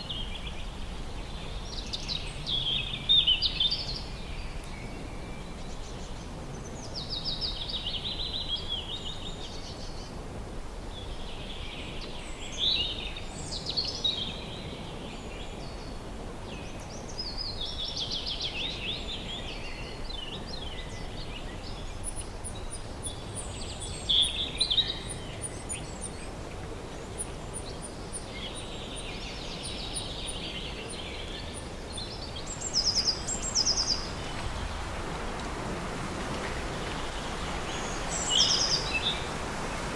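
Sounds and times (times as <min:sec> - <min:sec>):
songbirds singing: 0:00.0 - 0:10.2, 0:10.9 - 0:39.9
low background noise: 0:00.0 - 0:39.9.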